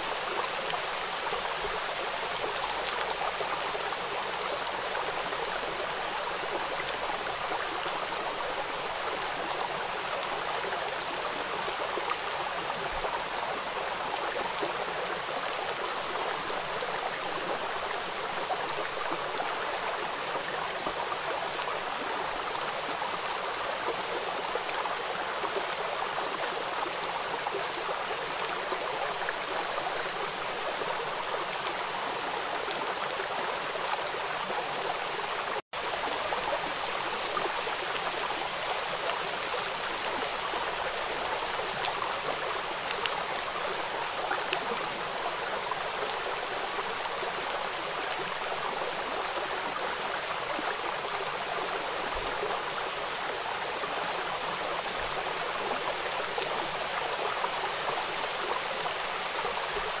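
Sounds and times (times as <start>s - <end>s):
rain splashing on puddles: 0.0s - 60.0s.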